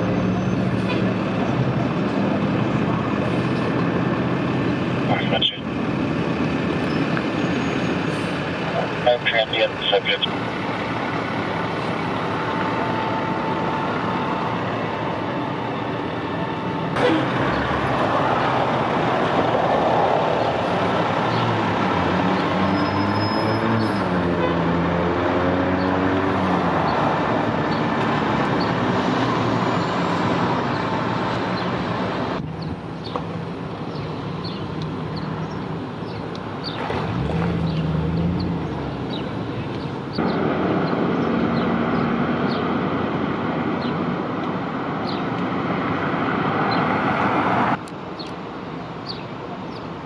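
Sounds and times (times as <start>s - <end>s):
vehicles passing: 0.0s - 50.0s.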